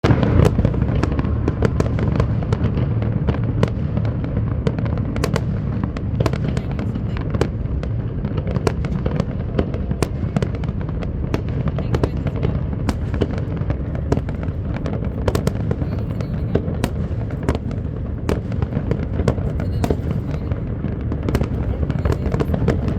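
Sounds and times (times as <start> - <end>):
fireworks cracks and bangs: 0.0 - 22.9
low rumble of bursting shells: 0.0 - 22.9.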